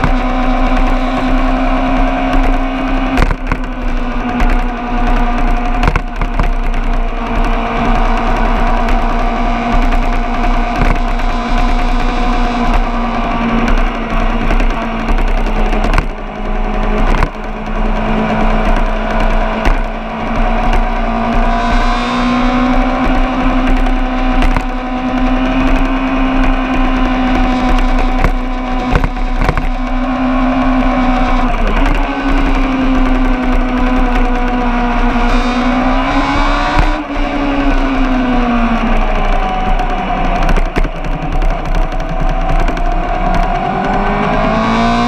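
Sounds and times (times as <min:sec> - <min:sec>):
racing engine at high revs: 0:00.0 - 0:45.0
sharp clicks: 0:00.0 - 0:45.0.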